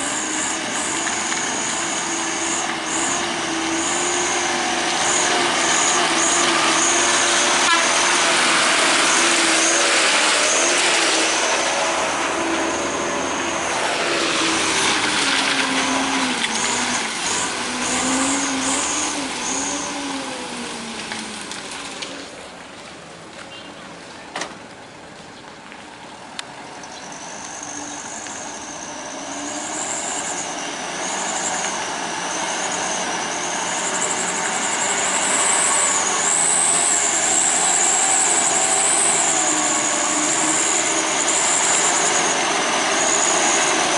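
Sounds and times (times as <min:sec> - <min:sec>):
high wavering whine: 0:00.0 - 0:21.4, 0:26.9 - 0:43.9
heavy truck engines labouring: 0:00.0 - 0:43.9.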